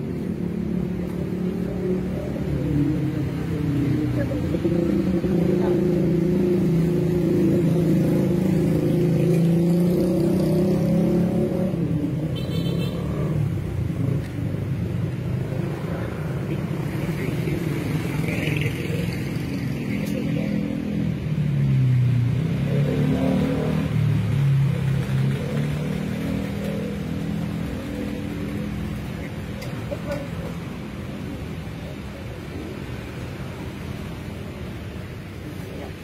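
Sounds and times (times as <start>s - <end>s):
vehicle engines in street traffic: 0.0s - 36.0s.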